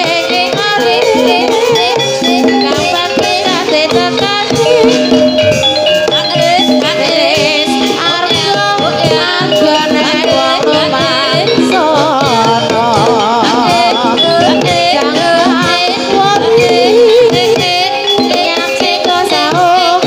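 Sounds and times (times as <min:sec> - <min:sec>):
person singing with heavy vibrato: 0:00.0 - 0:20.0
steady drumming: 0:00.0 - 0:20.0.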